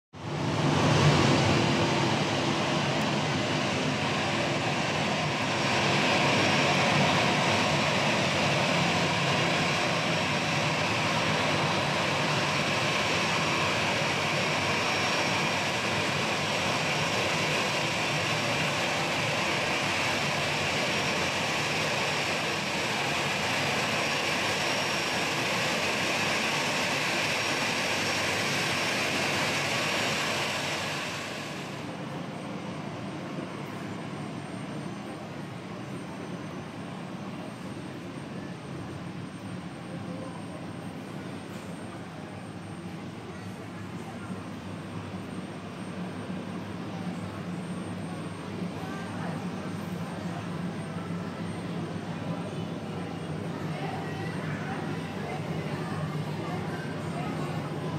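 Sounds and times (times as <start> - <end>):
jet engines hissing and whining: 0.2 - 57.9.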